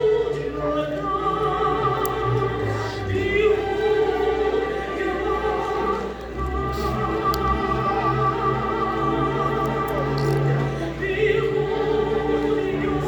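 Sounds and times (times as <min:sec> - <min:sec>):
choir singing classical style: 0:00.0 - 0:13.0.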